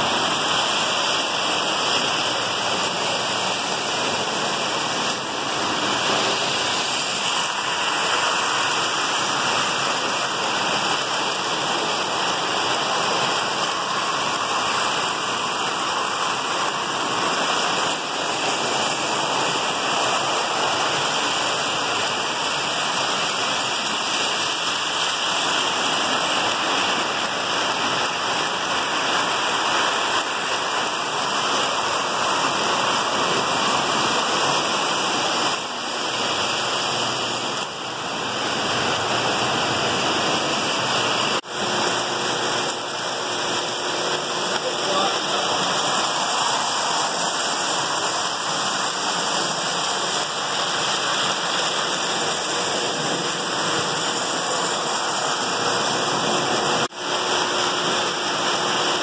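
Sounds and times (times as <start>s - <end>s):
toy trains whirring on metal track: 0.0s - 37.7s, 40.7s - 59.0s.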